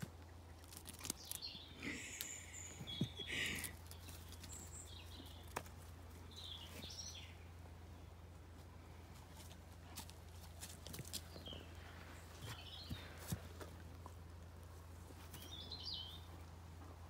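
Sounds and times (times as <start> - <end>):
low background hum: 0.0 - 17.0
small birds chirping: 0.0 - 17.0.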